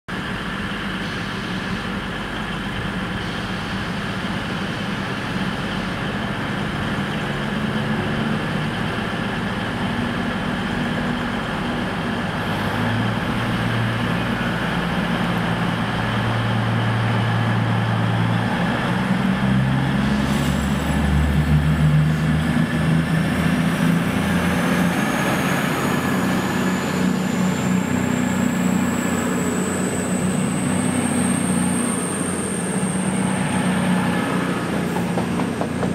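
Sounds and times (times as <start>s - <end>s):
train diesel engines: 0.1s - 35.9s.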